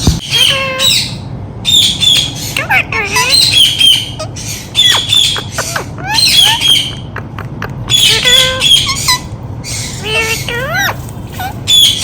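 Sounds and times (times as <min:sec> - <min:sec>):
parrot squawking: 0:00.2 - 0:12.0.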